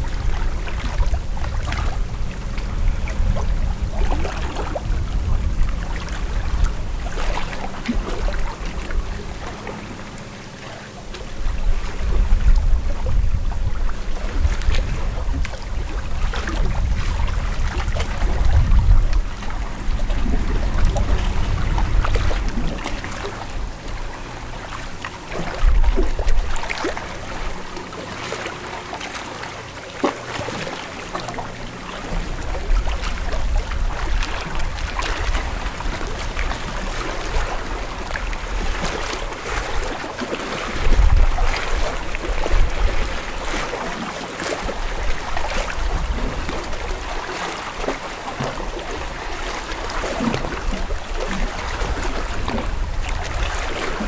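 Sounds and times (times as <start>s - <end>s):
wind rumbling on microphone: 0.0s - 29.5s, 30.2s - 54.0s
waves lapping and splashing: 0.0s - 54.0s.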